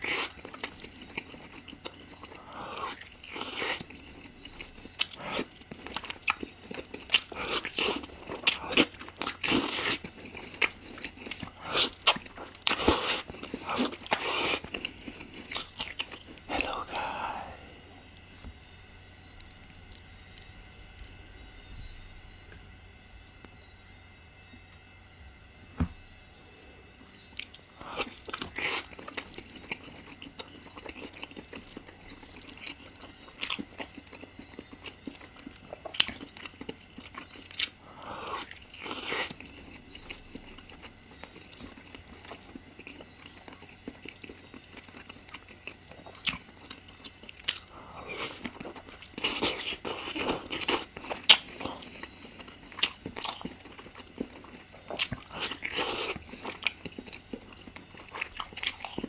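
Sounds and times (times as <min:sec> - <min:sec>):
person chewing food: 0:00.0 - 0:18.4, 0:19.3 - 0:21.2, 0:26.0 - 0:59.0.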